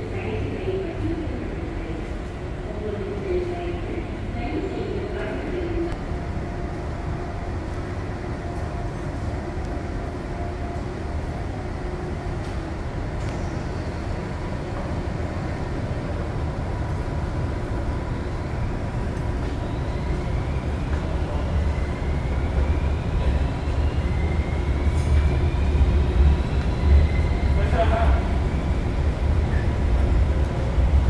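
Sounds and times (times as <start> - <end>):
electric train rumble: 0.0 - 31.0.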